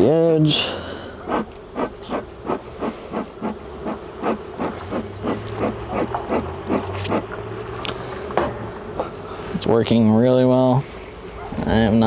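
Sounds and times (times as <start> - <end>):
bee smoker bellows puffing: 0.0 - 12.0
bees humming: 0.0 - 12.0.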